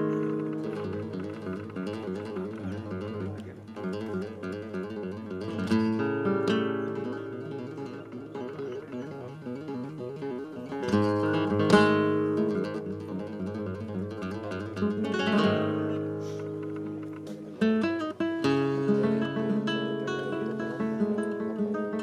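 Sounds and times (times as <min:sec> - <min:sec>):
acoustic guitar picking: 0:00.0 - 0:22.0
loud strummed chords: 0:00.0 - 0:22.0.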